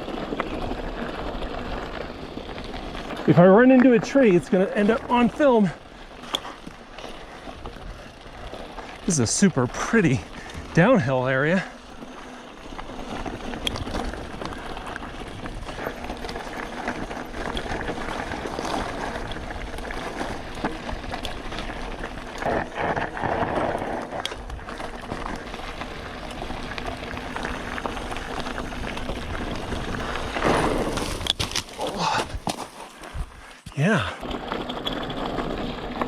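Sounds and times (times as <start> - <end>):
bike rattling over bumps: 0.0 - 36.0
tyres crunching on gravel: 0.0 - 36.0.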